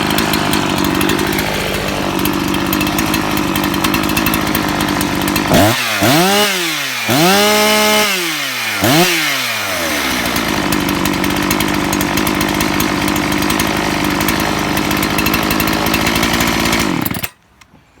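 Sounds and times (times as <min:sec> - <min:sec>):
chainsaw idling and revving: 0:00.0 - 0:17.4.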